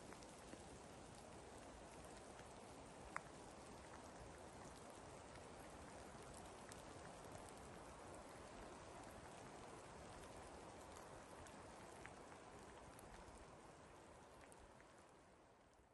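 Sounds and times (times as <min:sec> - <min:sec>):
raindrop ticks: 0:00.0 - 0:15.8
light rain patter: 0:00.0 - 0:15.9.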